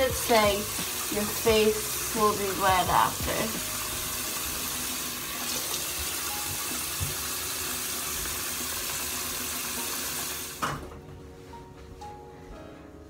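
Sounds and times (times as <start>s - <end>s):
tap water running: 0.0s - 10.8s.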